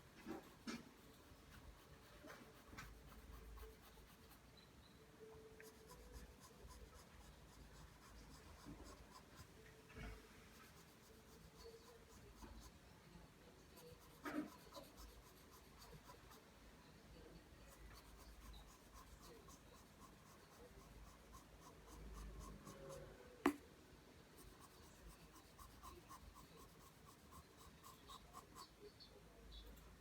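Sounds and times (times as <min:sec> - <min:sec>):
pencil scratching on paper: 0:00.2 - 0:04.4, 0:05.6 - 0:12.8, 0:13.6 - 0:16.4, 0:17.6 - 0:23.6, 0:24.4 - 0:28.8.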